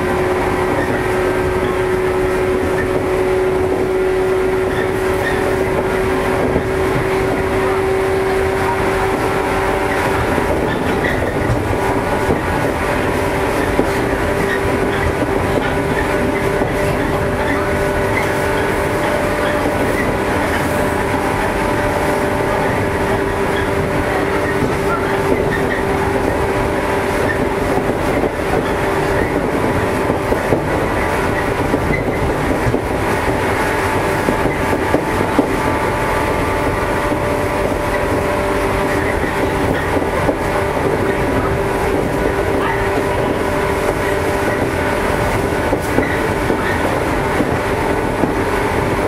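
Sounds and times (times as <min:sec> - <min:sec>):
track clacks: 0:00.0 - 0:49.0
train motor whine: 0:00.0 - 0:49.0
wheels rumbling on rails: 0:00.0 - 0:49.0.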